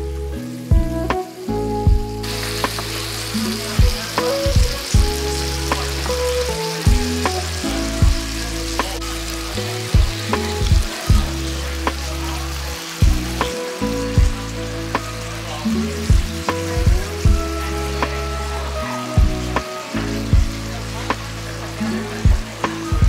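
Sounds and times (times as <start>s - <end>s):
background music: 0.0s - 23.0s
meat and mushrooms sizzling: 0.0s - 23.0s.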